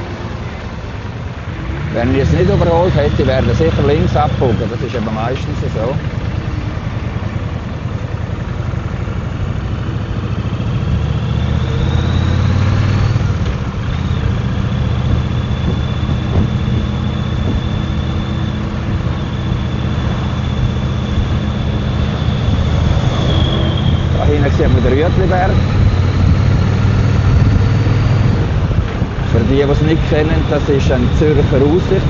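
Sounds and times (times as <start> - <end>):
motorcycle engine running: 0.0 - 32.0
road and wind noise: 0.0 - 32.0.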